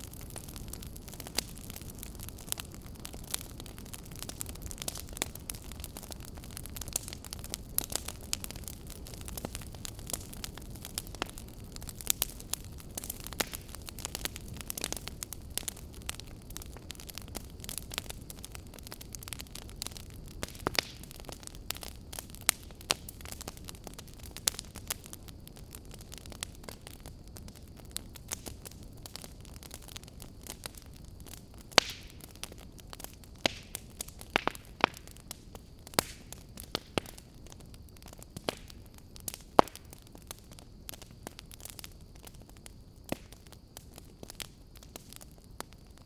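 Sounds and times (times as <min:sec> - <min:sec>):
firewood crackling and popping: 0:00.0 - 0:46.0
flames rumbling: 0:00.0 - 0:46.0.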